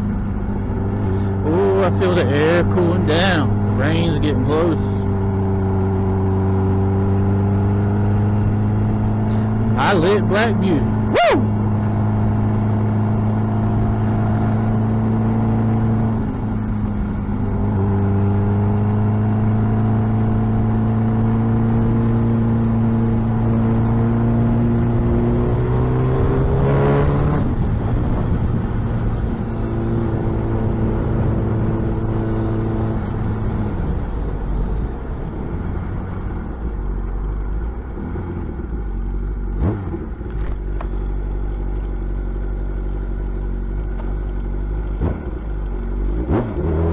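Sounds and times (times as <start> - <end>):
motorcycle engine with loud exhaust: 0.0 - 46.9.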